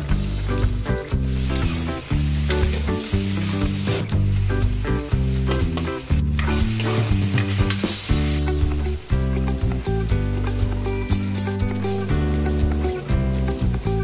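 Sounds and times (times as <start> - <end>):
background music: 0.0 - 14.0
food sizzling in a wok: 0.0 - 14.0.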